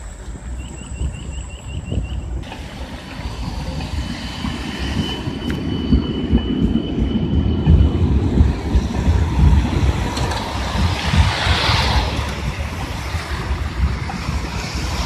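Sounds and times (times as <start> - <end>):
crossing signal chirping: 0.0 - 14.5
steady high whine: 0.0 - 15.0
tram wheels rumbling on rails: 0.0 - 15.0.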